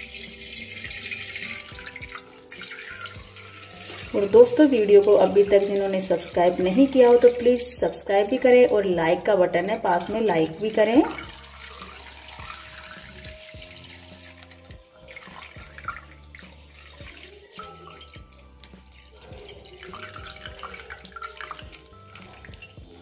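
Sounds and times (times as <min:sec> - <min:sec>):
liquid splashing: 0:00.0 - 0:08.0, 0:09.6 - 0:23.0
milk pouring into metal pot: 0:00.0 - 0:08.6, 0:09.8 - 0:23.0.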